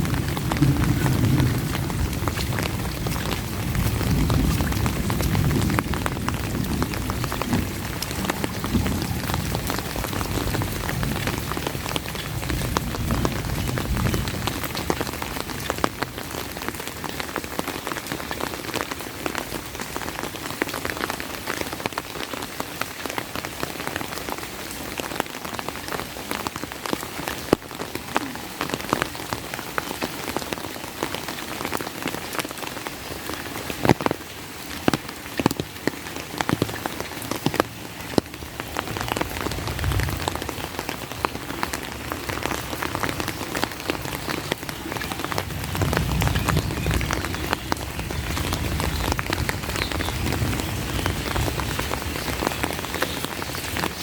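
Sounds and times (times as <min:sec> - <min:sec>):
heavy rain with drop impacts: 0:00.0 - 0:54.0.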